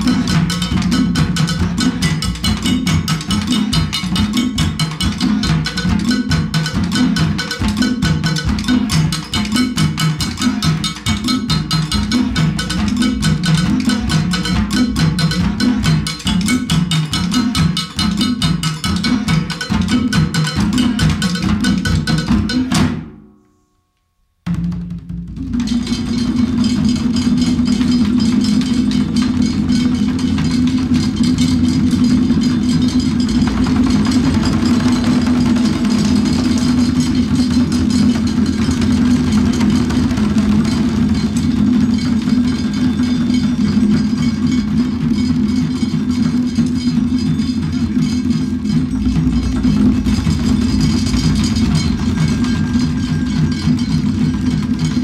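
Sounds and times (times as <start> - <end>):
hand drum ensemble playing: 0.0 - 23.4, 24.4 - 55.0
stick and metal percussion: 0.0 - 55.0.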